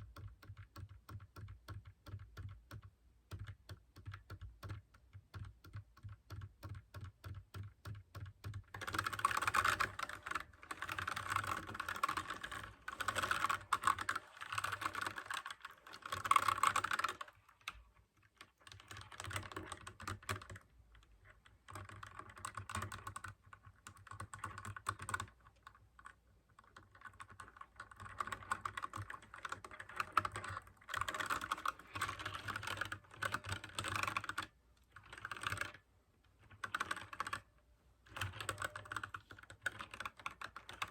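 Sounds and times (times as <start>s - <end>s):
typing on mechanical keyboard: 0.0s - 35.8s, 36.4s - 37.5s, 38.1s - 40.9s.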